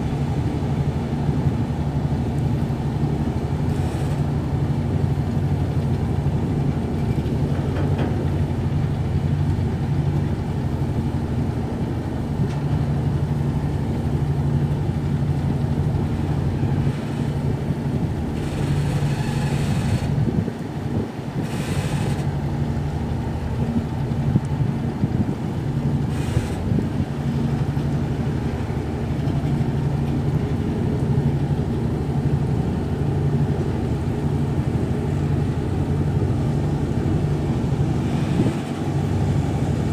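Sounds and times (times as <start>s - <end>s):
ferry engines humming: 0.0s - 39.9s.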